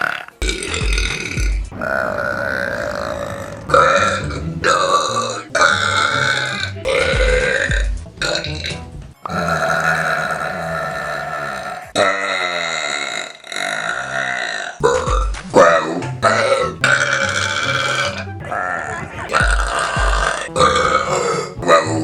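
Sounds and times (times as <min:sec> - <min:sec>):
woman belching: 0:00.0 - 0:22.0.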